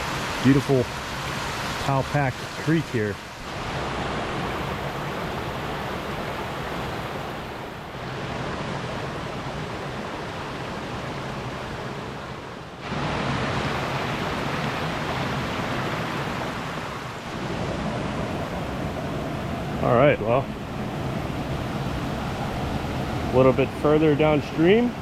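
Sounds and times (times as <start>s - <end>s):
creek water rushing over rapids: 0.0s - 25.0s.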